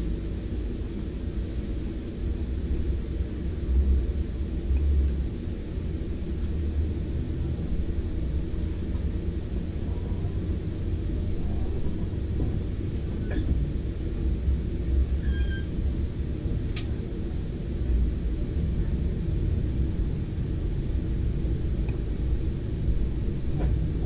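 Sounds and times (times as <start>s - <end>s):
train car rumbling on track: 0.0s - 24.0s.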